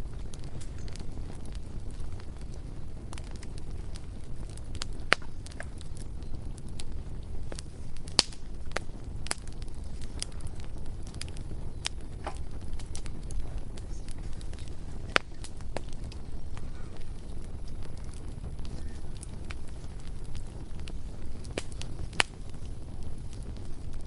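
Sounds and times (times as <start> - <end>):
burning wood popping and snapping: 0.0 - 24.0
low rumble of flames: 0.0 - 24.0.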